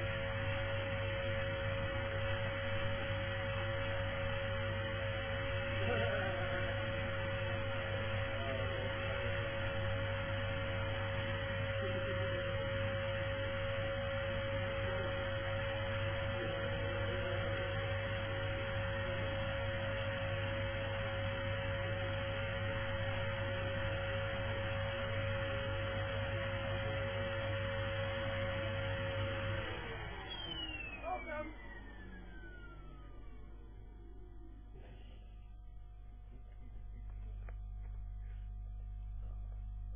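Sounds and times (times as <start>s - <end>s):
vacuum cleaner running: 0.0s - 38.4s.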